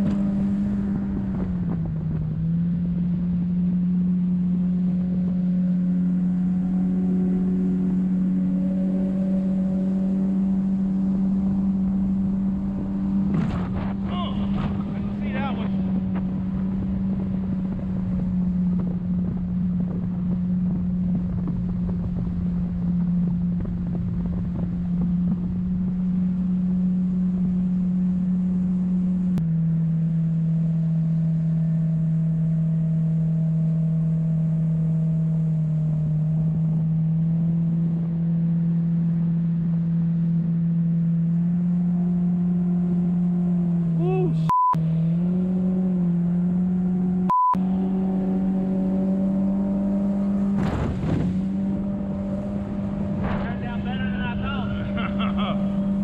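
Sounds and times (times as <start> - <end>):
boat engine running: 0.0 - 56.0
water rushing along hull: 0.0 - 56.0.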